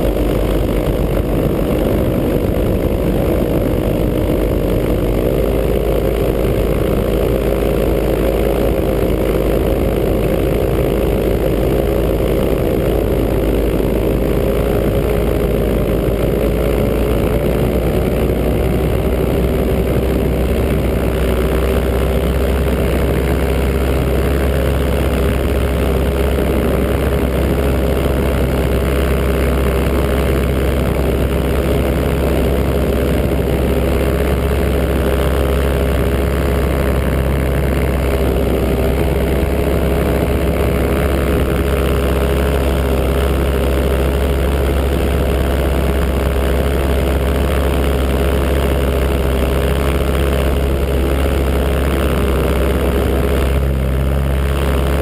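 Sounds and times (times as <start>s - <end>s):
paramotor engine drone: 0.0s - 55.0s.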